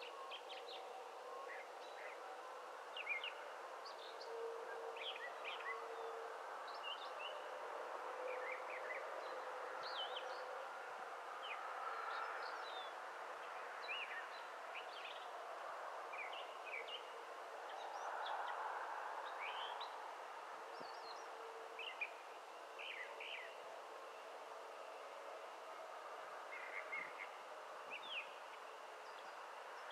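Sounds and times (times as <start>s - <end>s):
outdoor background hiss: 0.0s - 29.9s.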